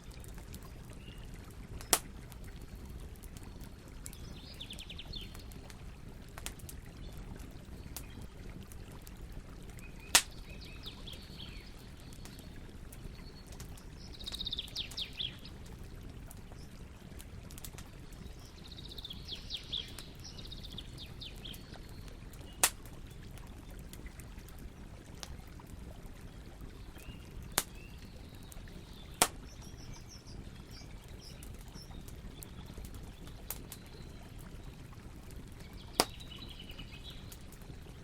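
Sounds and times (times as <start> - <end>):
burning wood popping: 0.0 - 15.1, 16.1 - 18.6, 21.3 - 24.6, 27.2 - 35.0, 35.6 - 38.0
campfire burning: 0.0 - 38.0.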